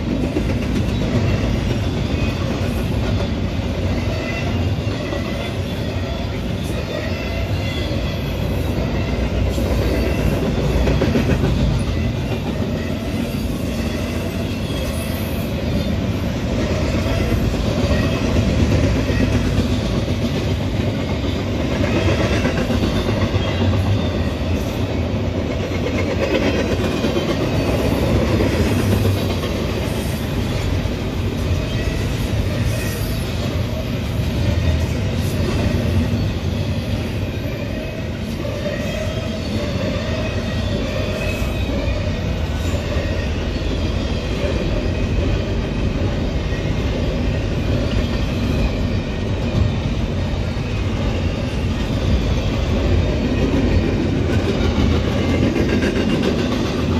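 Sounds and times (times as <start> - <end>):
train wheels rolling on rails: 0.0 - 56.9.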